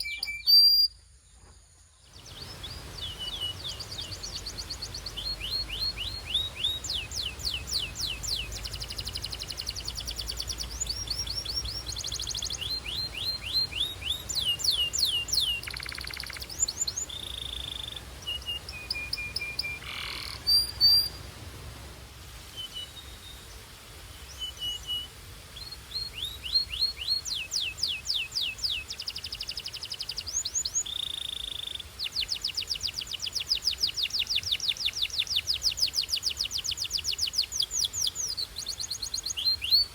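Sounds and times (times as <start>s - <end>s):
canary singing trills: 0.0s - 1.0s, 2.1s - 21.2s, 24.3s - 39.9s.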